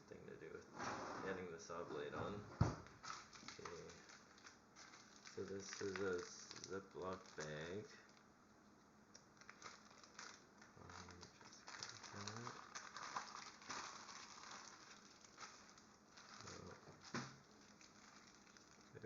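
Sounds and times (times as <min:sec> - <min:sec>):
plastic bag crinkling: 0:02.8 - 0:08.3, 0:09.2 - 0:19.0.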